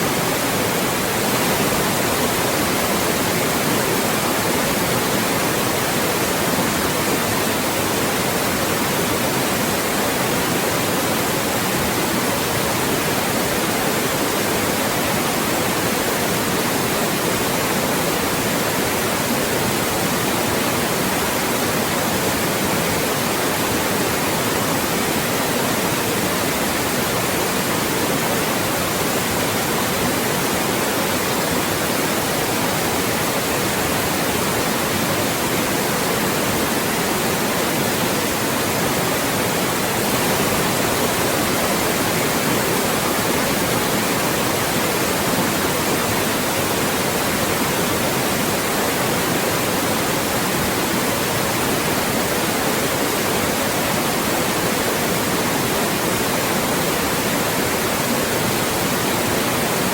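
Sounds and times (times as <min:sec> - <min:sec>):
loud white noise: 0:00.0 - 0:59.9.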